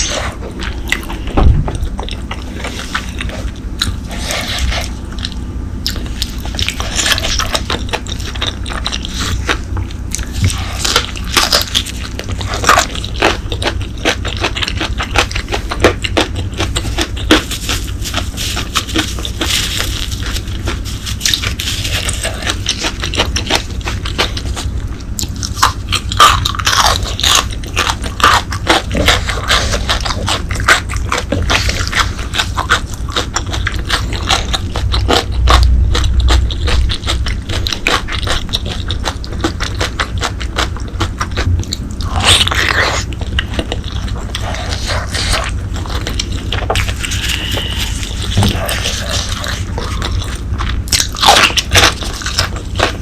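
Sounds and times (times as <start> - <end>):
chewing and biting: 0.0 - 53.0
low rumble: 0.0 - 53.0.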